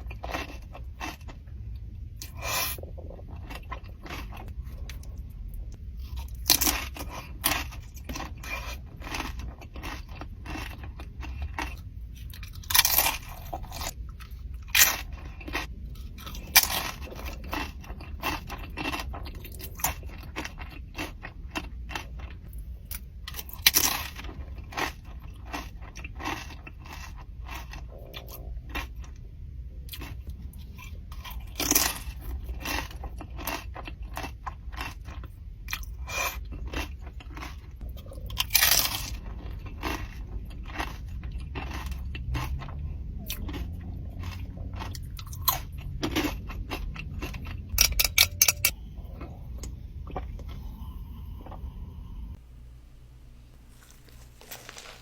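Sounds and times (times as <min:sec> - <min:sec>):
chewing and crunching food: 0:00.0 - 0:52.1, 0:53.5 - 0:55.0.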